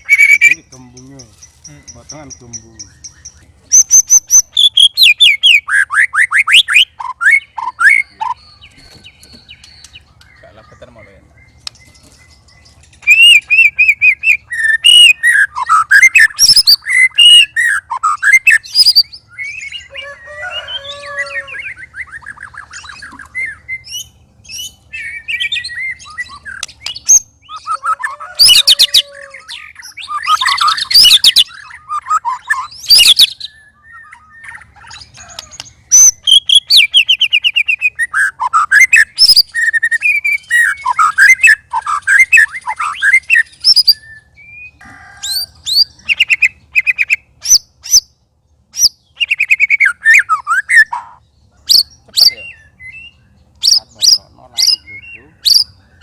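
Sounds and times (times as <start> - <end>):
songbird whistling song: 0.0 - 56.0.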